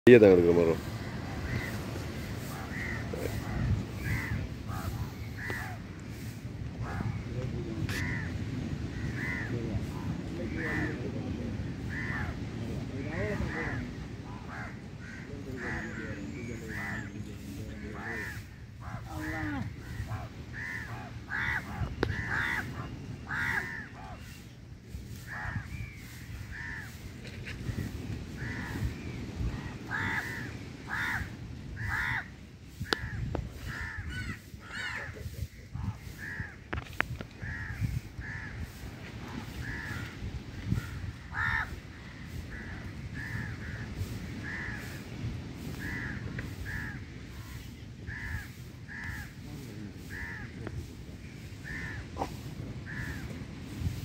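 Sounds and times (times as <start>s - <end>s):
crows cawing: 0.9s - 24.4s, 25.1s - 50.9s, 51.5s - 53.9s.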